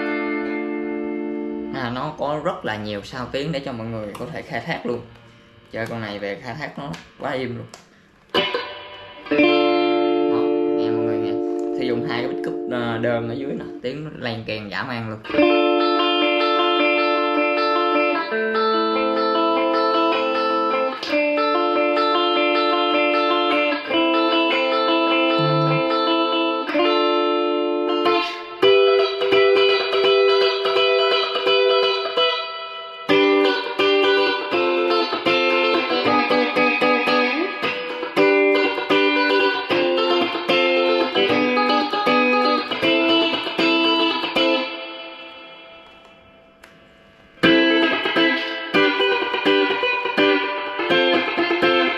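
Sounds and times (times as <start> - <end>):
electric guitar through amp: 7.0 - 13.9, 15.3 - 51.9.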